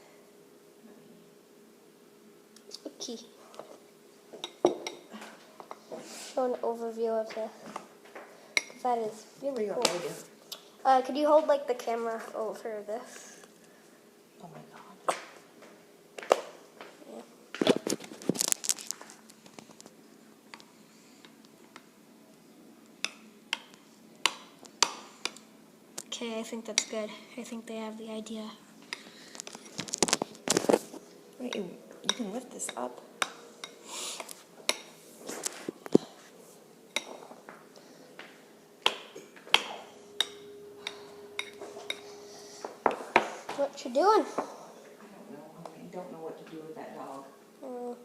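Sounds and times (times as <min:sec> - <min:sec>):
faint hum: 0:00.0 - 0:48.0.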